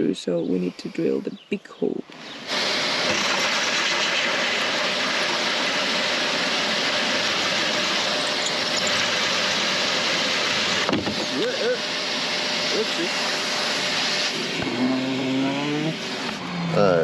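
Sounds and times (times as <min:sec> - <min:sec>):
power drill boring through metal: 0:02.5 - 0:16.4.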